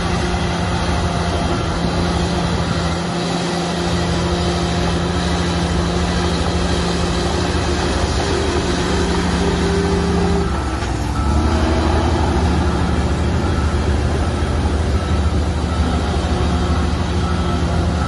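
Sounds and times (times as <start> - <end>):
deeper louder engine: 0.0 - 18.0
diesel engine running: 0.0 - 18.0.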